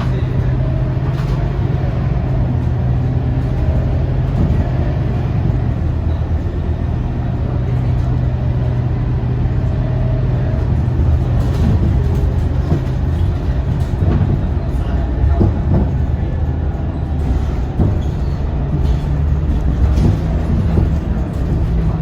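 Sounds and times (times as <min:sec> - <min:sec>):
bus diesel engine humming: 0:00.0 - 0:22.0
road noise: 0:00.0 - 0:22.0.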